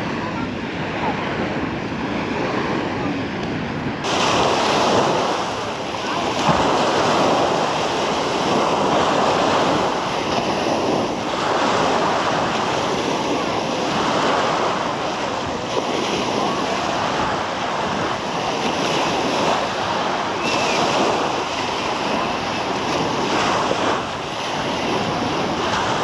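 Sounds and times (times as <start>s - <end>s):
sea waves washing onto beach: 0.0s - 26.0s
wind on microphone: 0.0s - 26.0s.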